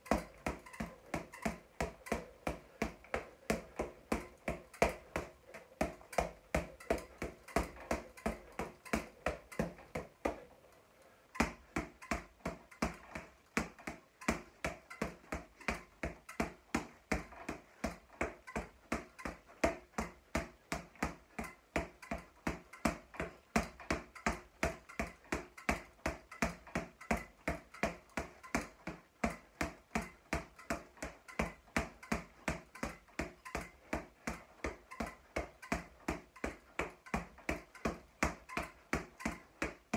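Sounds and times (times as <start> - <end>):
boxing gloves hitting a ball: 0.0 - 10.5, 11.3 - 39.9.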